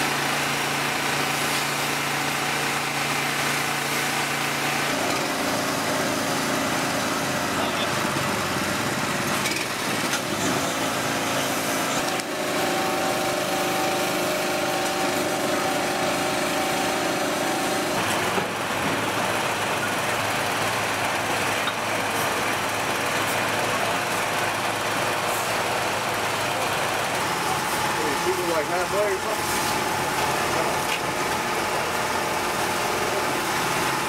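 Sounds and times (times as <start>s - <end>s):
pressure washer motor drone: 0.0s - 34.0s.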